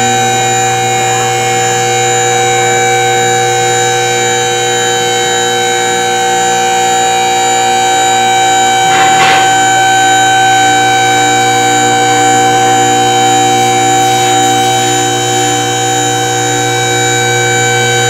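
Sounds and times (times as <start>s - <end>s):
hydraulic pump motor whining: 0.0s - 18.0s.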